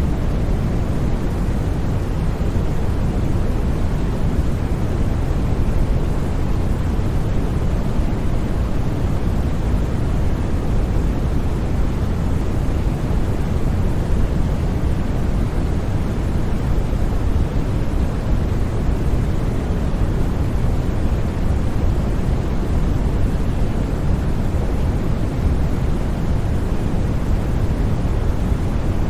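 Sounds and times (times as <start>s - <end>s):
white noise hiss: 0.0s - 29.0s.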